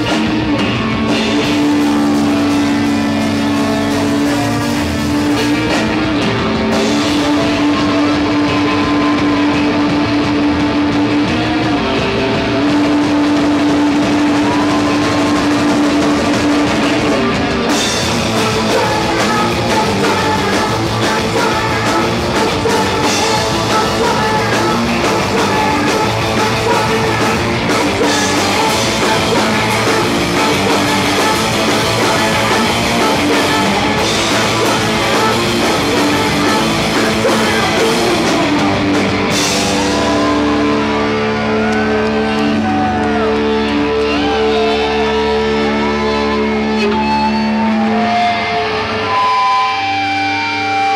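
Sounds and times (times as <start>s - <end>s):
drum kit with cymbal wash: 0.0s - 43.2s
distorted electric guitar: 0.0s - 50.9s
rock band playing loud: 0.0s - 50.9s.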